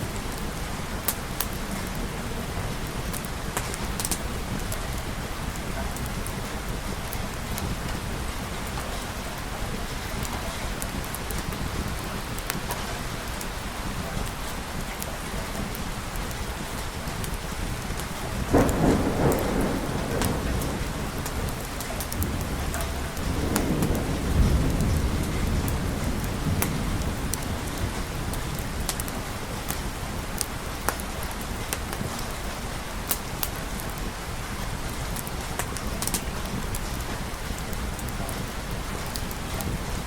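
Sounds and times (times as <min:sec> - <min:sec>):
steady rain hiss: 0:00.0 - 0:40.0
thunder crack and rumble: 0:00.2 - 0:32.5.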